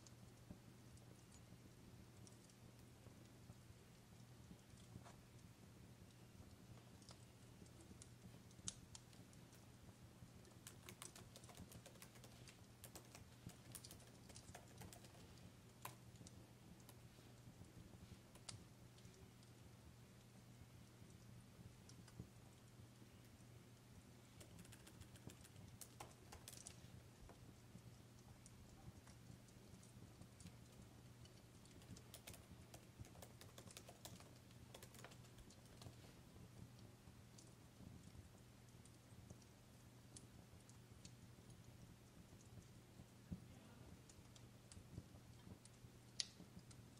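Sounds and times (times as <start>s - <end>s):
fireplace crackling: 0.0s - 46.9s
low steady hum: 0.0s - 46.9s.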